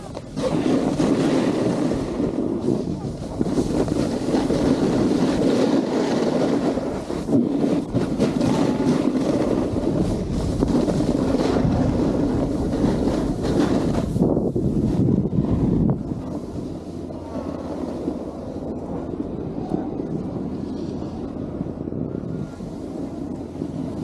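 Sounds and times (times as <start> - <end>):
snowboard scraping over snow: 0.0 - 24.0
wind buffeting microphone: 0.0 - 24.0.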